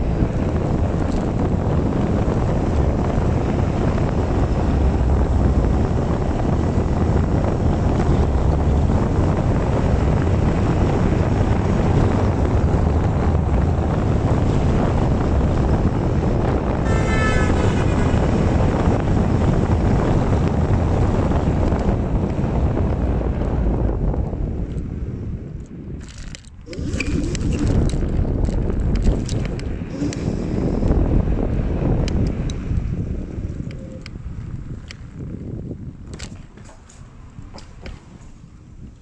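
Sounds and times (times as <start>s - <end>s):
road noise: 0.0s - 39.0s
wind buffeting microphone: 0.0s - 39.0s.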